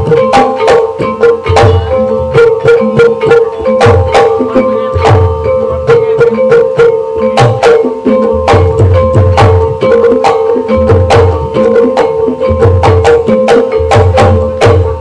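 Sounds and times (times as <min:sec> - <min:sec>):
hand drum strokes: 0:00.0 - 0:15.0
ringing tuned percussion: 0:00.0 - 0:15.0.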